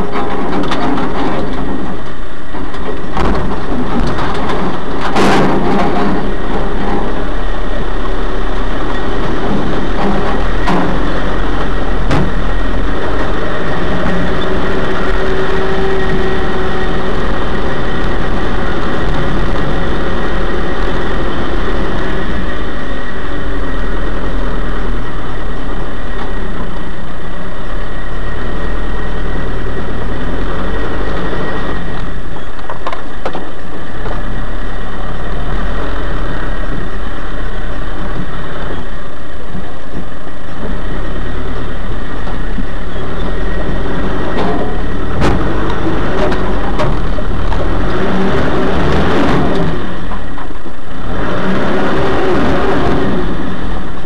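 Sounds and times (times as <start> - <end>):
vehicle clattering over rough ground: 0.0 - 54.0
vehicle engine rumble: 0.0 - 54.0.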